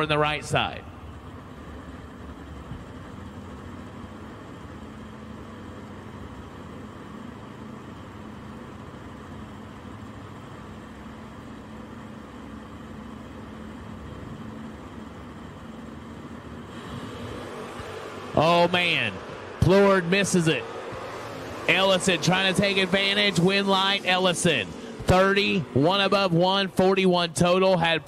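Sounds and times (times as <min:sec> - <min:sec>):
car engines running steadily: 0:00.0 - 0:28.0.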